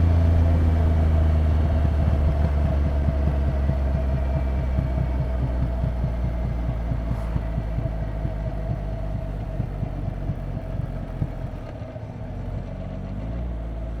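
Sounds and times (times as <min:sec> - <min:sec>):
motorcycle engine low throb: 0:00.0 - 0:11.7.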